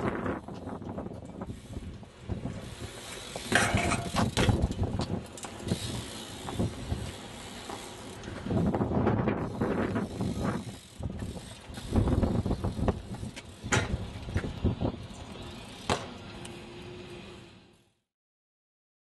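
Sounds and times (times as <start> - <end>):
sharp bike clicks: 0.0 - 16.7
bike tyre rumble and scuffing: 0.0 - 17.6.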